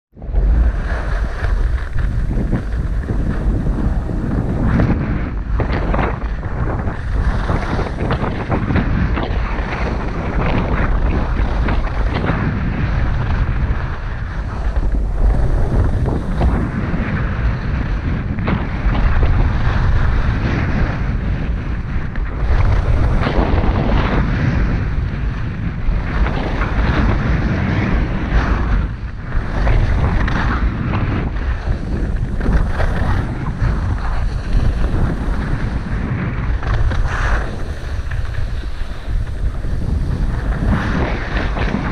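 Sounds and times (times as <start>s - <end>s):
wind buffeting microphone: 0.1s - 41.9s
skis scraping packed snow: 0.3s - 41.9s.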